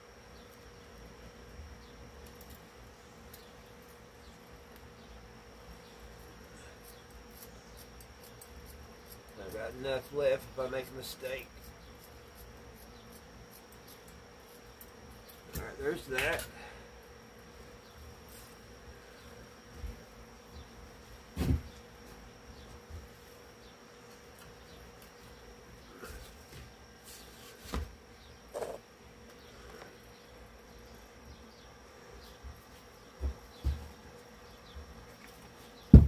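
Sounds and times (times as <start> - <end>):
faint two-tone hum: 0.0 - 36.0.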